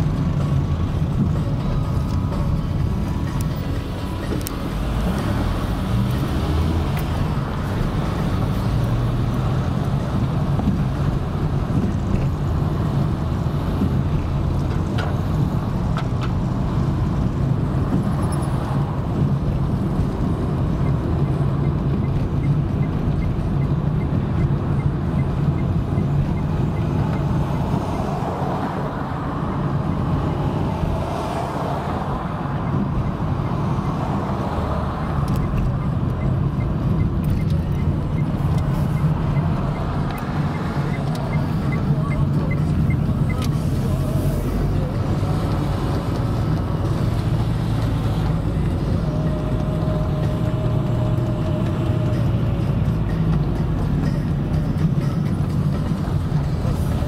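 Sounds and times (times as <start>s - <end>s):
car engine hum: 0.0s - 57.0s
road rumble: 0.0s - 57.0s.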